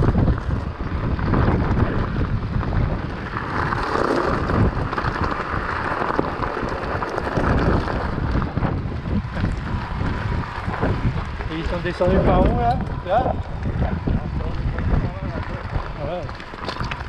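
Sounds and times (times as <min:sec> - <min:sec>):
bike rattle: 0:00.0 - 0:17.0
wind buffeting microphone: 0:00.0 - 0:17.0
tyres crunching on gravel: 0:00.1 - 0:17.0
small stones pattering: 0:02.6 - 0:17.0.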